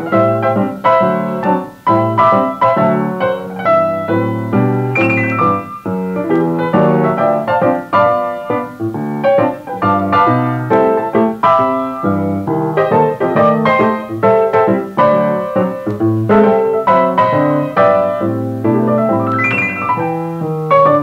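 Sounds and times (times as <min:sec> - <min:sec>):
easy-listening piano music: 0:00.0 - 0:21.0.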